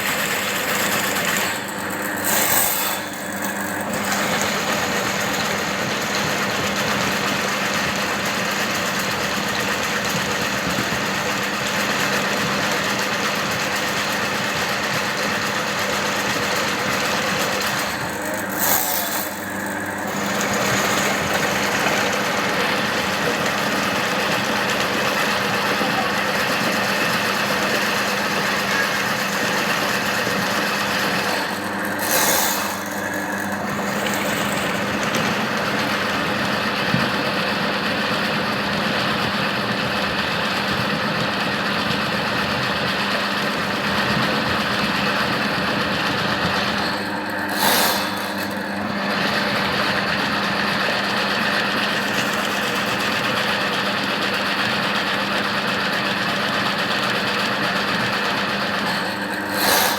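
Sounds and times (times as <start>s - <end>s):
drain-cleaning machine humming: 0.0s - 59.9s.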